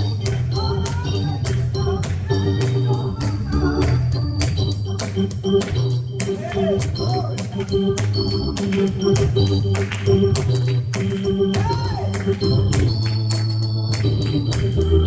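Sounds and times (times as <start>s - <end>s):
organ holding chords: 0.0s - 15.0s.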